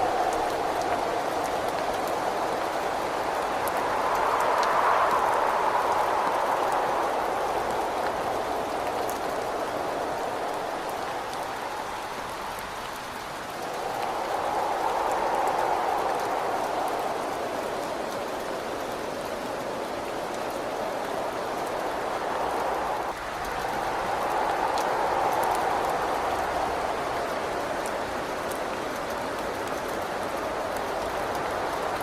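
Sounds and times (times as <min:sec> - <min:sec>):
rain hitting a window: 0:00.0 - 0:32.0
wind whistling: 0:00.0 - 0:32.0.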